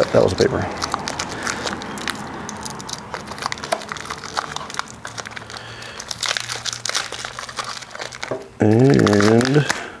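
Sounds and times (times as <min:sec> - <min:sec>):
plastic wrapping and paper crinkling: 0:00.0 - 0:10.0.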